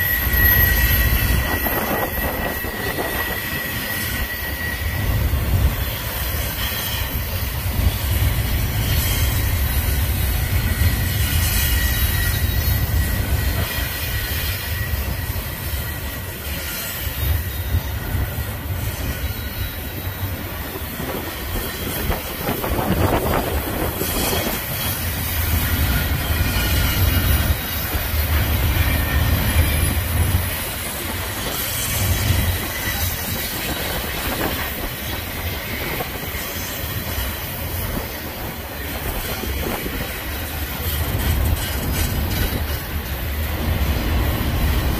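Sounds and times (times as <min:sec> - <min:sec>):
high wheel squeal: 0:00.0 - 0:44.9
steel wheels rumbling: 0:00.0 - 0:44.9.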